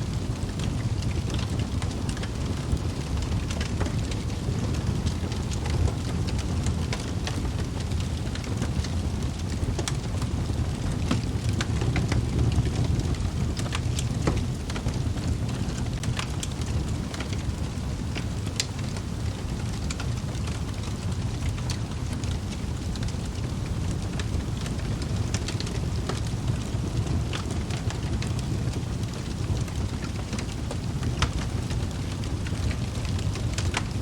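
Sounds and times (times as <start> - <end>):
fire flames rumbling: 0.0 - 34.0
logs crackling and popping: 0.0 - 34.0.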